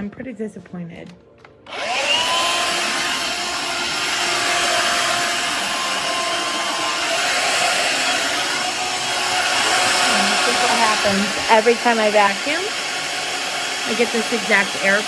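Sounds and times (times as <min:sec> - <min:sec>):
stick vacuum running: 0:01.6 - 0:15.0.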